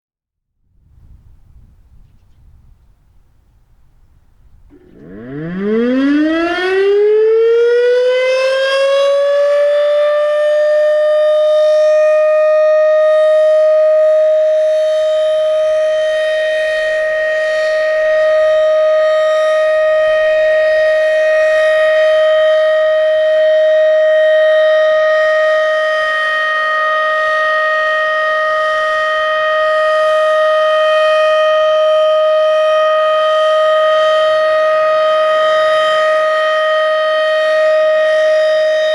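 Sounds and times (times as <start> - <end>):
rotating warning siren: 4.7 - 38.9.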